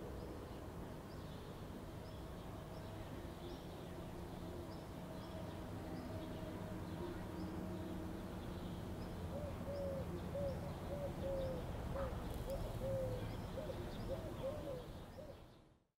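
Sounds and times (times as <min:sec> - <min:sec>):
city ambience hum: 0:00.0 - 0:15.6.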